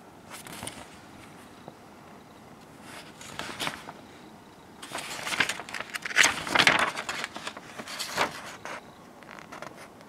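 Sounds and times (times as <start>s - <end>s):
paper rustling and crinkling: 0.3s - 1.6s, 2.6s - 4.2s, 4.8s - 10.0s.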